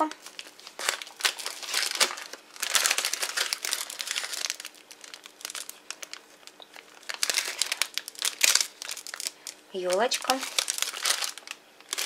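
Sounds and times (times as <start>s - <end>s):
cellophane bags crinkling: 0.0s - 12.0s.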